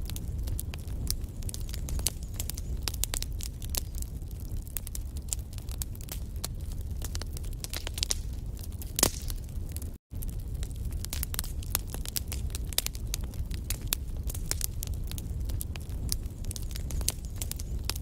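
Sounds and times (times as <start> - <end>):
logs crackling and popping: 0.0 - 18.0
low rumble of flames: 0.0 - 18.0.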